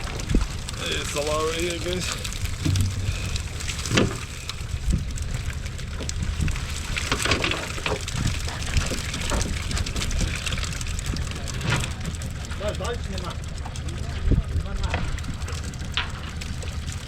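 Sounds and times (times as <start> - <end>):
low steady hum: 0.0 - 17.0
small knocks and crackles: 0.0 - 17.0
wet pattering and splashing: 0.0 - 17.0.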